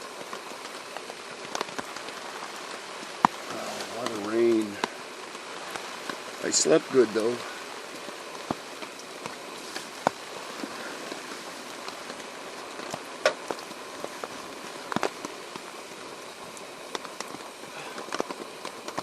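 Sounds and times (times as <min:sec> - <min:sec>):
rain falling on a tarp: 0:00.0 - 0:19.0.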